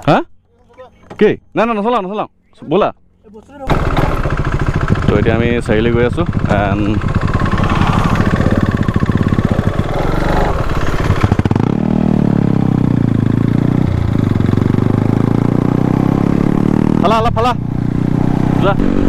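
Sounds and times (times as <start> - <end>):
motorcycle engine revving: 3.7 - 19.0.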